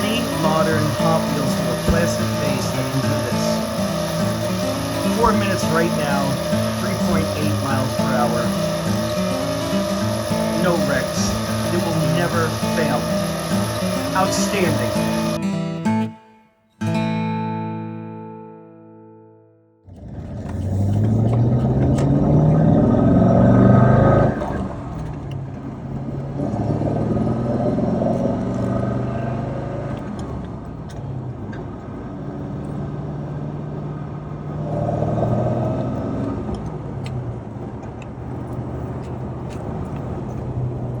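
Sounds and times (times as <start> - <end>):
car engine revving: 0.0 - 15.4, 19.9 - 41.0.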